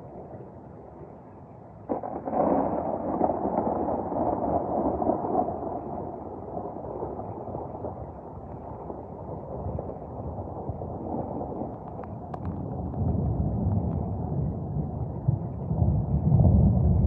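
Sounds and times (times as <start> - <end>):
rumble of thunder: 1.8 - 17.0
thunder crack: 1.9 - 17.0.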